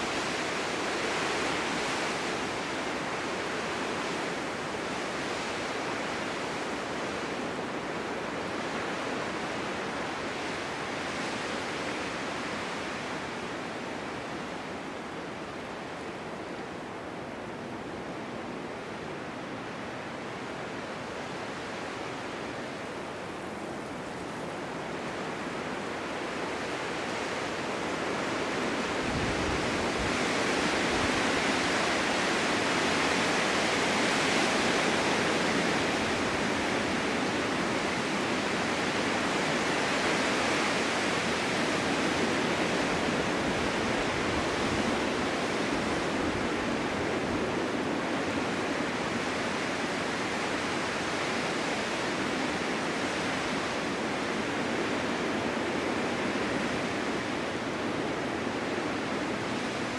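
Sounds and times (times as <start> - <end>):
wind blowing snow: 0.0 - 59.9.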